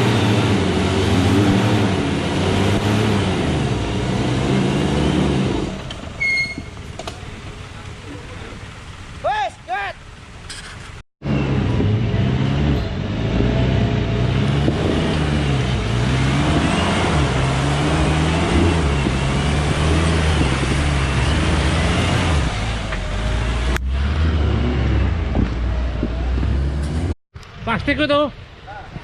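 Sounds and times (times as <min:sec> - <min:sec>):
off-road engine under load: 0:00.0 - 0:28.8.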